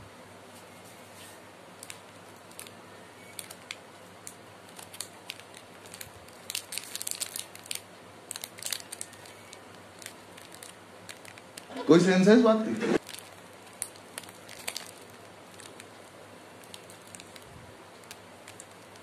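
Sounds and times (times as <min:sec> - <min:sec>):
plastic wrapper crinkling: 0:01.8 - 0:11.7, 0:13.0 - 0:19.0.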